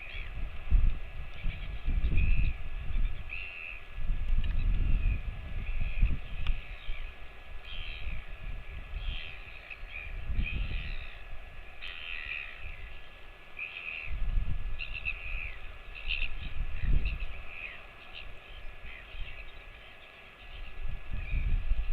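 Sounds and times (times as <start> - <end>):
birds chirping: 0.0 - 0.4, 1.3 - 21.9.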